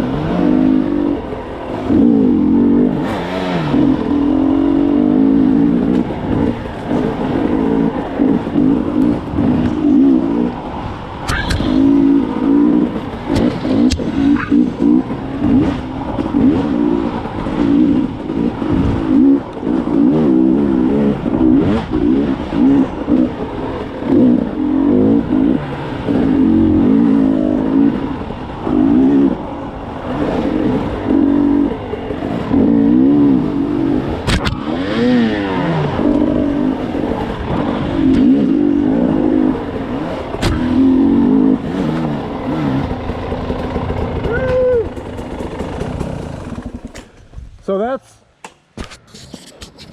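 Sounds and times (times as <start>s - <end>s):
dirt bike engine revving: 0.0s - 47.2s.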